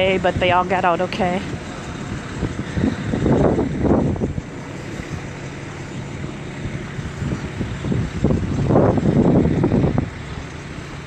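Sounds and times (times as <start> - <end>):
steady low hum: 0.0 - 11.0
wind buffeting the microphone: 0.0 - 11.0.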